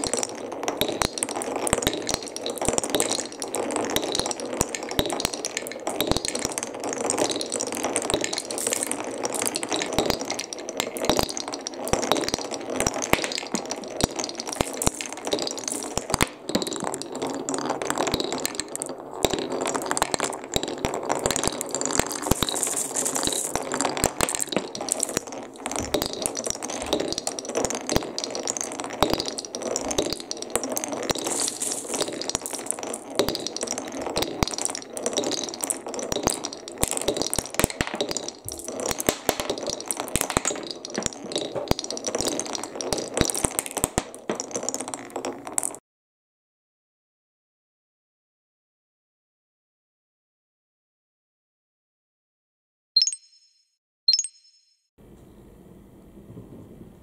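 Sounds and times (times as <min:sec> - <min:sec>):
marbles clattering down wooden run: 0:00.0 - 0:45.8.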